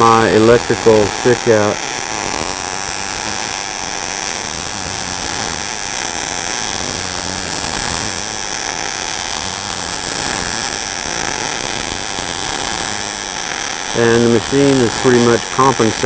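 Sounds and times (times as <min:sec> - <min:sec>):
welding arc: 0:00.0 - 0:16.0.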